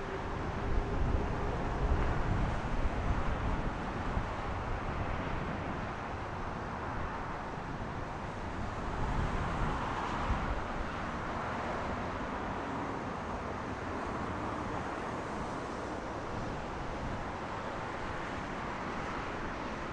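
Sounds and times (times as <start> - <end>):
distant jet engine noise: 0.0 - 19.9.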